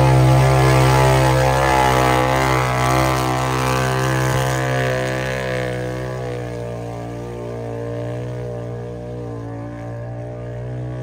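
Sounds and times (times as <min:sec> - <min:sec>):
engine running hard: 0:00.0 - 0:11.0.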